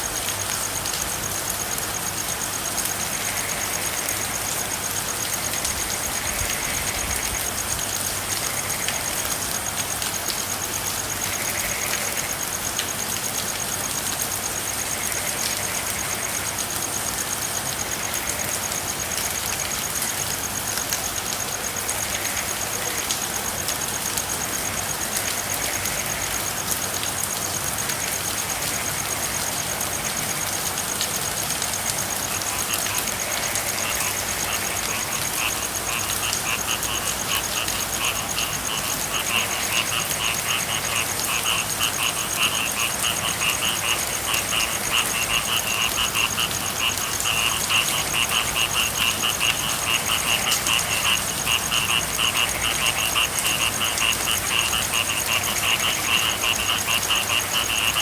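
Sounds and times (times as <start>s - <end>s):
frogs calling in trilling pulses: 0.0s - 58.0s
steady rain: 0.0s - 58.0s.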